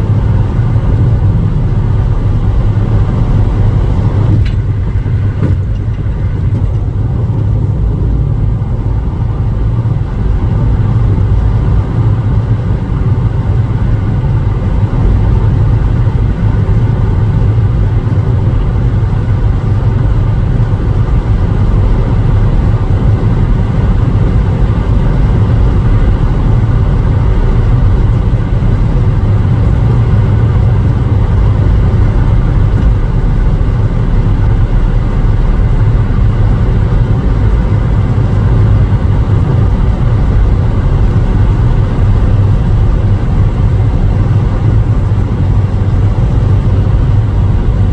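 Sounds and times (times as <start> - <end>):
car road and engine noise: 0.0 - 47.9.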